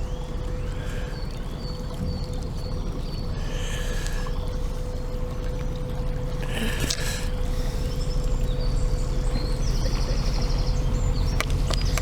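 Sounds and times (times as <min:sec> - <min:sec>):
boat diesel engine rumbling: 0:00.0 - 0:12.0.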